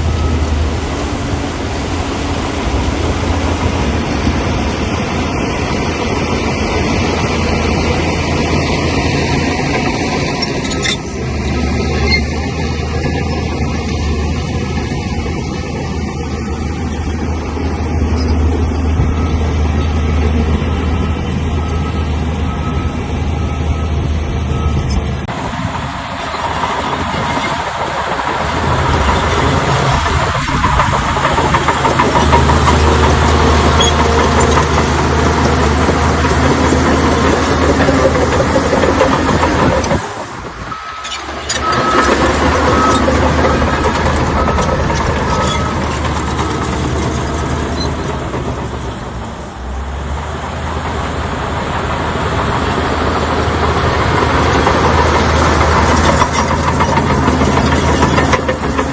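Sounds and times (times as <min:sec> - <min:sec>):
diesel bulldozer engine drone: 0:00.0 - 0:58.9.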